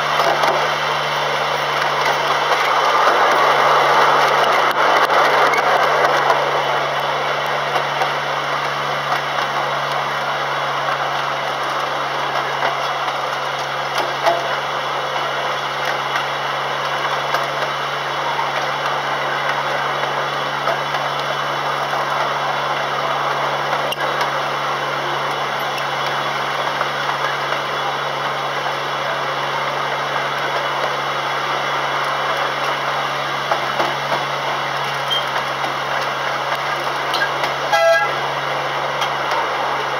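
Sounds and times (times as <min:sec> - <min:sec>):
locomotive engine humming: 0:00.0 - 0:39.9
train running noise: 0:00.0 - 0:39.9.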